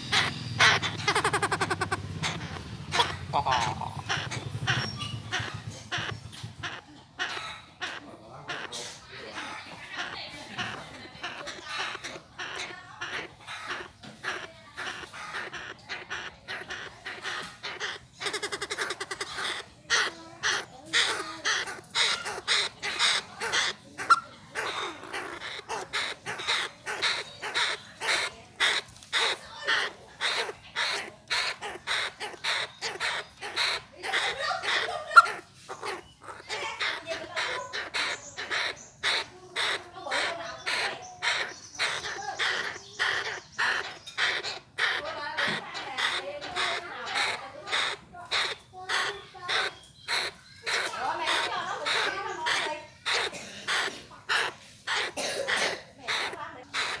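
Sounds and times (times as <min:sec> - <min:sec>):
bird calling harsh notes: 0:00.0 - 0:57.0.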